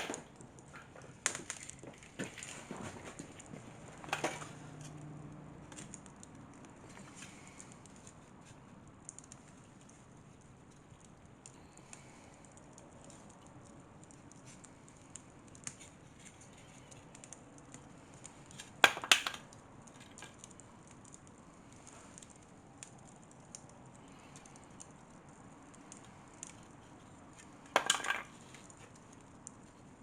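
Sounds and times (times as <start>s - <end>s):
wood fire crackling: 0.0s - 30.0s
sharp cracks of fire: 5.7s - 29.8s.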